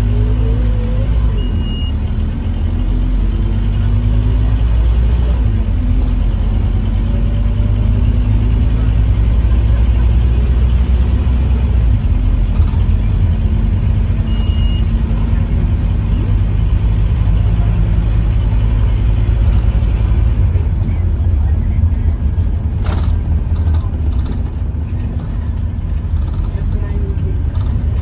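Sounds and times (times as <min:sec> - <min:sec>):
bus diesel engine rumble: 0:00.0 - 0:28.0.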